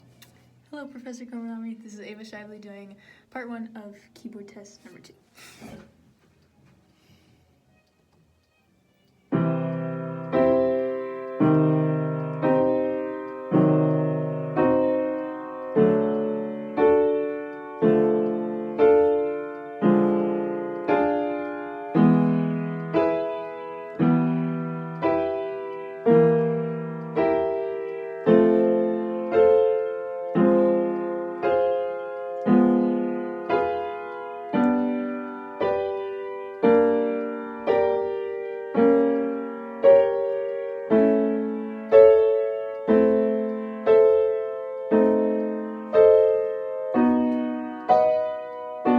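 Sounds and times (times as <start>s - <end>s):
piano block chords: 9.3s - 48.9s.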